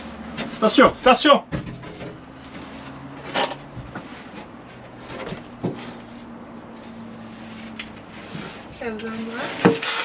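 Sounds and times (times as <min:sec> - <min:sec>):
plywood knocking and scraping: 0:00.0 - 0:10.0.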